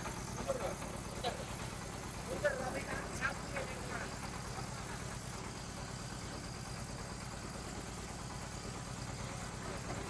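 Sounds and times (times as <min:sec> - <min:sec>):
extruder machine humming: 0:00.0 - 0:10.0.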